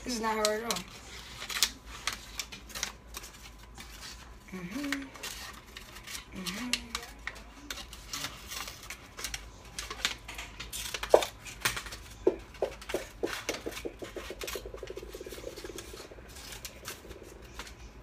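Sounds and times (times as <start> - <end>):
paper rustling: 0.7 - 18.0.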